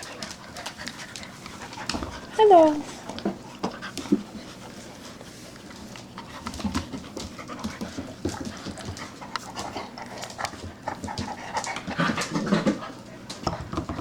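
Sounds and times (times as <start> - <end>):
puppies scuffling: 0.0 - 14.0.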